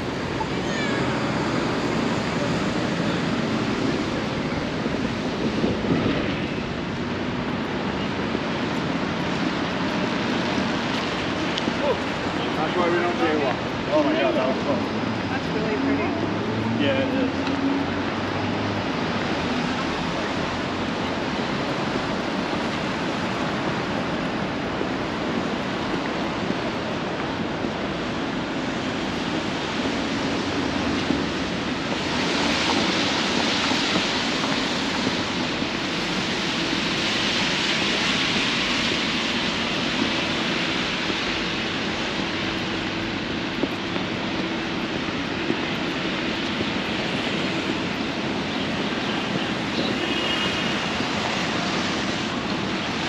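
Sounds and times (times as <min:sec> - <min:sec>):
city traffic hiss: 0:00.0 - 0:53.0
tyres on wet pavement: 0:00.0 - 0:53.0.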